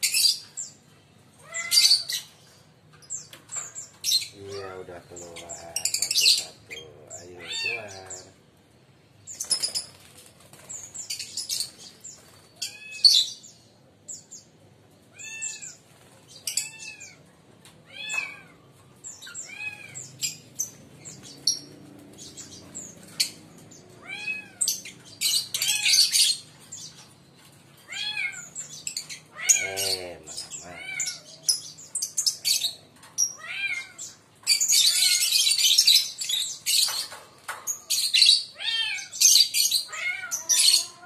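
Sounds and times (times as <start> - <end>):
lovebirds calling: 0.0 - 14.6, 15.2 - 17.3, 17.9 - 41.0
lovebirds chattering: 0.0 - 14.6, 15.2 - 17.3, 17.9 - 41.0.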